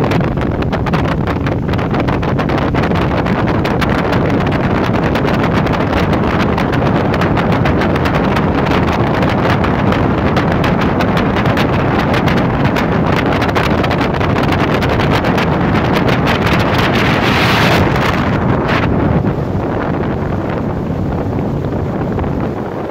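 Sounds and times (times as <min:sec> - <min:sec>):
churning water: 0:00.0 - 0:22.9
motorboat engine running fast: 0:00.0 - 0:22.9
wind buffeting microphone: 0:00.0 - 0:22.9.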